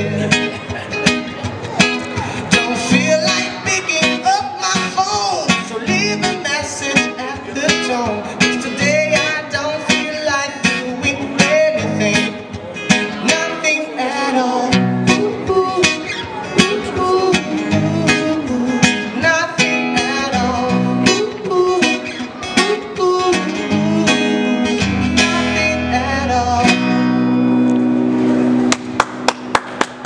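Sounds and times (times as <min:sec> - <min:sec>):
man singing: 0:00.0 - 0:27.3
strummed acoustic guitar: 0:00.0 - 0:28.7.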